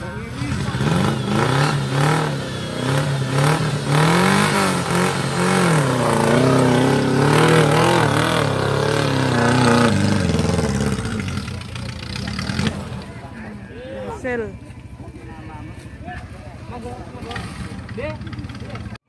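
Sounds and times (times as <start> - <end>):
engine revving: 0.0 - 13.6, 16.8 - 19.0.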